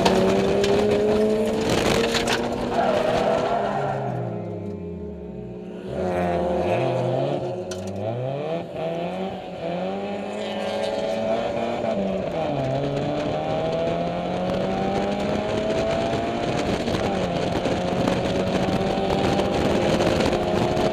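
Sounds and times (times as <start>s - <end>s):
race car engine revving: 0.0s - 20.9s.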